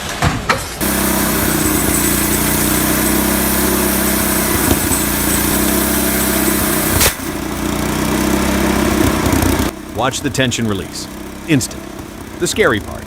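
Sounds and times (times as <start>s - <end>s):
chainsaw engine running: 0.8s - 13.0s.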